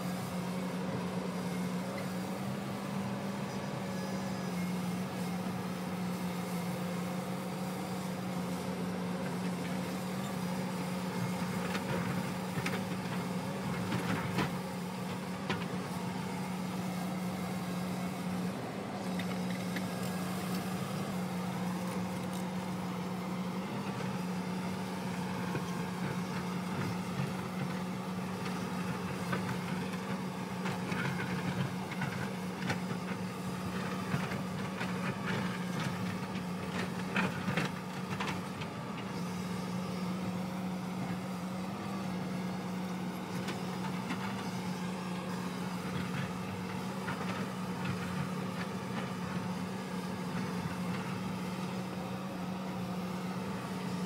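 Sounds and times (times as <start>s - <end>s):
excavator diesel engine humming: 0.0s - 54.0s.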